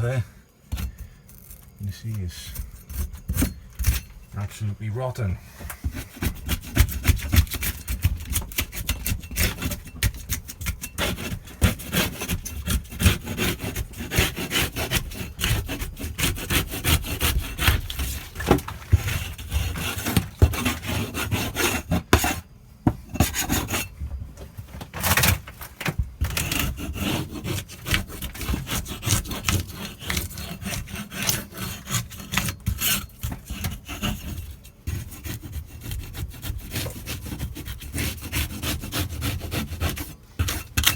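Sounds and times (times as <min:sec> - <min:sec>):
hand scraper scraping plywood: 0:00.0 - 0:04.1, 0:05.4 - 0:23.9, 0:26.2 - 0:40.9.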